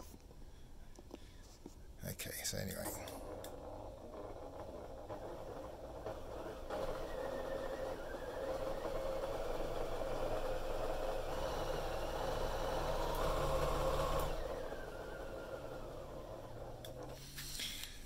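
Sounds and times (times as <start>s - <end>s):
sewing machine whirring: 2.8s - 18.0s.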